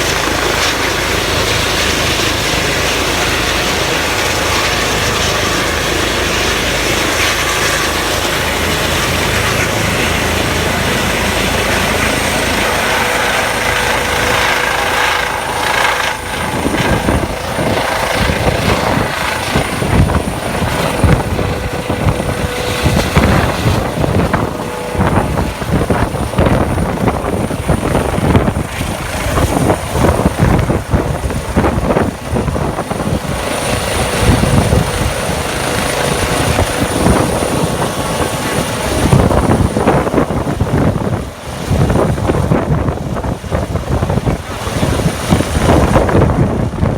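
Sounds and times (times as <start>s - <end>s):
helicopter rotor beating: 0.0s - 46.9s
helicopter turbine whine: 0.0s - 46.9s.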